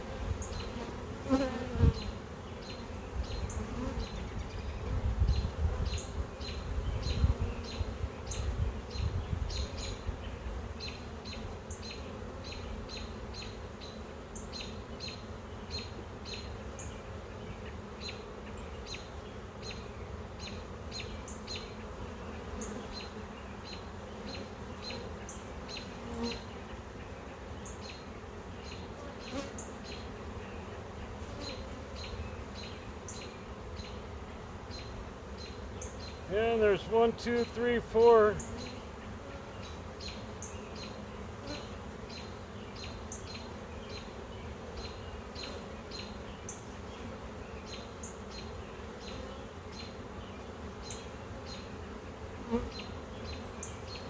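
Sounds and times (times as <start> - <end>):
bees buzzing: 0.0 - 15.3, 19.7 - 54.0.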